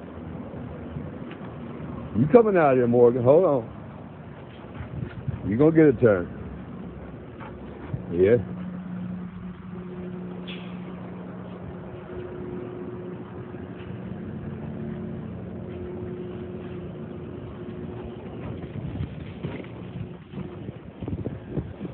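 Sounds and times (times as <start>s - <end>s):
engine humming: 0.0s - 21.9s.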